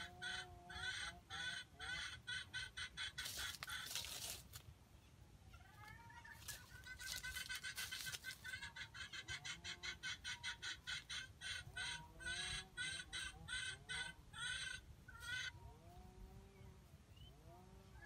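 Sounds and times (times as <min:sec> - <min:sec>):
chicken clucking rapidly: 0:00.0 - 0:04.5, 0:05.5 - 0:15.6.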